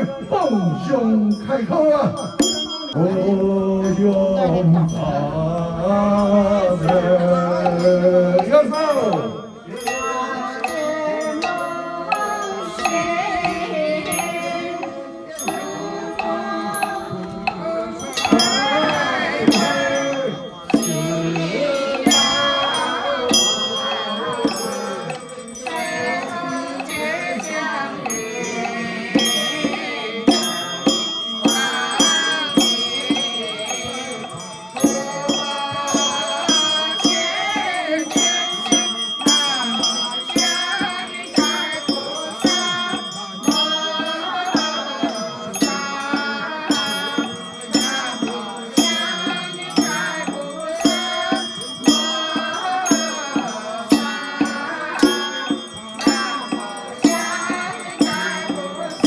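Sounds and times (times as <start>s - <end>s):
group chanting to a melody: 0.0s - 59.0s
percussion strike: 2.2s - 59.0s
chime or bell tones: 6.1s - 59.0s.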